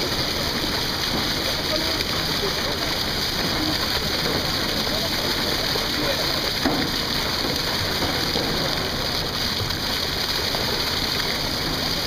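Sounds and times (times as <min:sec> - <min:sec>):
low steady rumble: 0:00.0 - 0:12.0
water gushing and splashing: 0:00.0 - 0:12.0.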